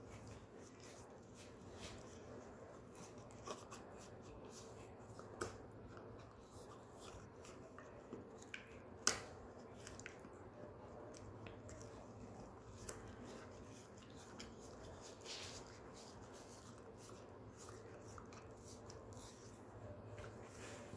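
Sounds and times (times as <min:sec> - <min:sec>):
dog gnawing a horn chew: 0:02.8 - 0:20.3.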